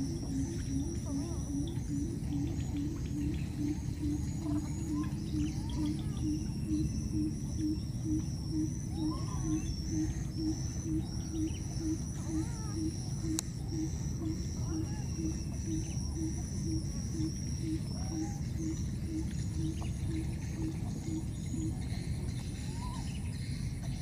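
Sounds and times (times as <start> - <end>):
high wavering insect drone: 0.0 - 24.0
low pulsing call: 0.0 - 24.0
squeaky calls: 0.0 - 24.0.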